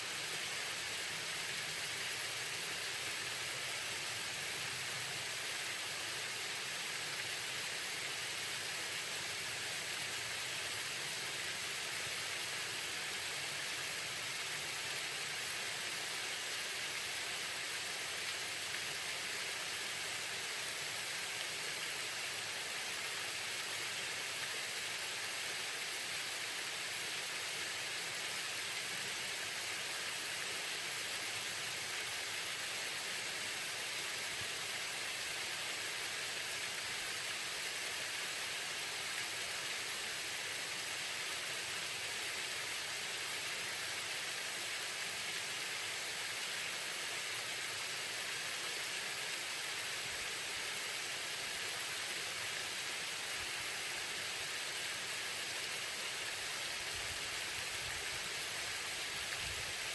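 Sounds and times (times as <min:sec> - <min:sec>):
waterfall running: 0:00.0 - 0:59.9.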